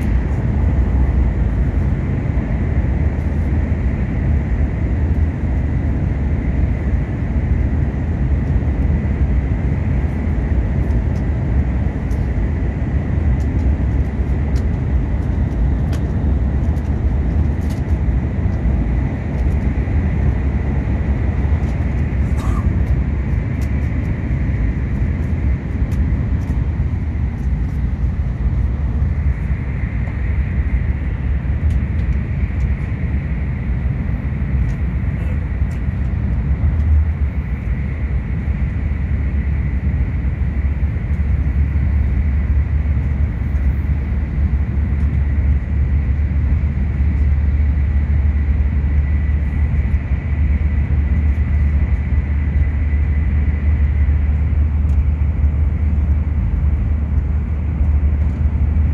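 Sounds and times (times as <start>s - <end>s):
train deep rumble: 0.0s - 58.9s.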